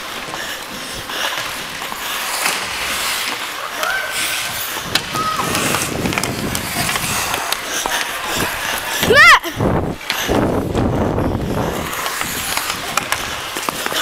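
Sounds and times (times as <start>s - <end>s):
hockey sticks clacking: 0.0s - 14.0s
skate blades scraping ice: 0.0s - 14.0s.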